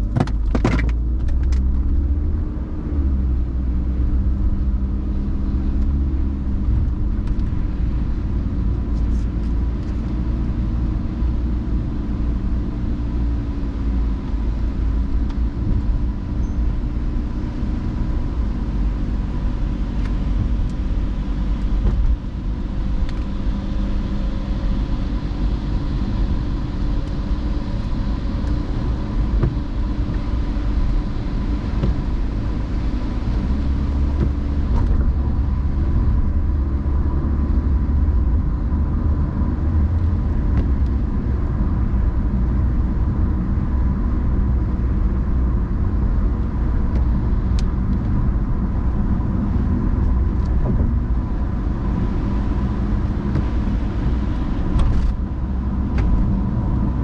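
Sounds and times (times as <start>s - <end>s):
car engine and tyres on wet road: 0.0s - 57.0s.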